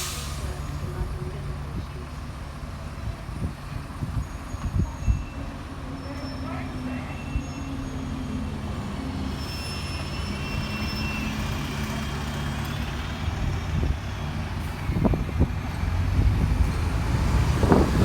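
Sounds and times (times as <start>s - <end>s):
heavy vehicle engine rumble: 0.0s - 18.0s.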